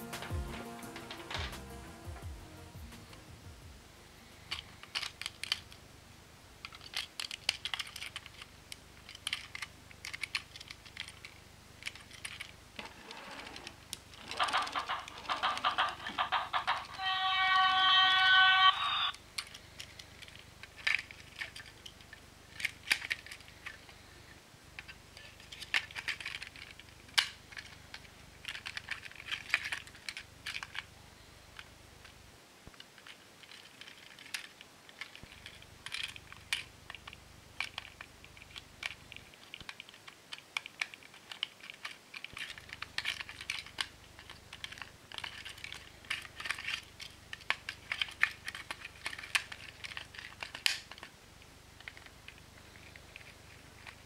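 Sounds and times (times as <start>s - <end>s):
plastic toy clicks and rattles: 4.4s - 5.8s, 6.6s - 23.9s, 24.8s - 30.9s, 32.7s - 51.2s, 51.8s - 54.0s.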